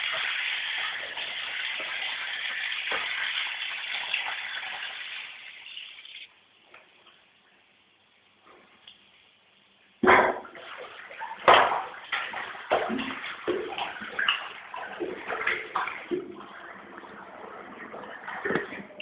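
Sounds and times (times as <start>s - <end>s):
water splashing in shower tray: 0.0s - 6.3s, 10.0s - 19.0s.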